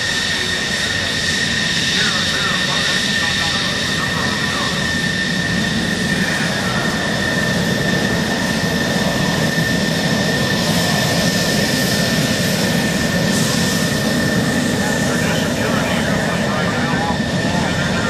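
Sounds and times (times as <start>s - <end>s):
jet engine high whine: 0.0s - 18.0s
jet engines rumbling: 0.0s - 18.0s.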